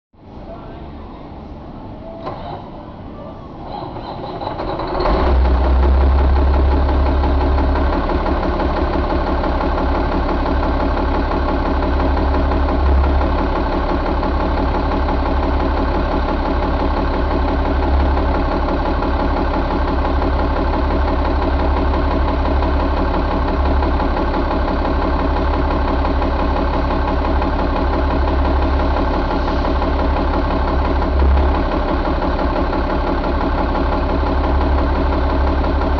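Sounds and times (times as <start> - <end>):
diesel engine cranking and idling: 0.2 - 35.9.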